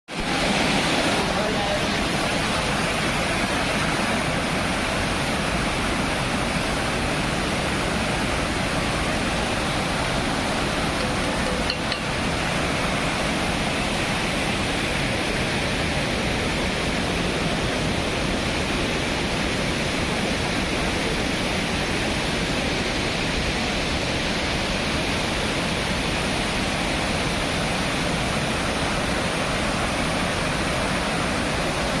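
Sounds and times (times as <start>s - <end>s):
river rushing over rocks: 0.1s - 32.0s.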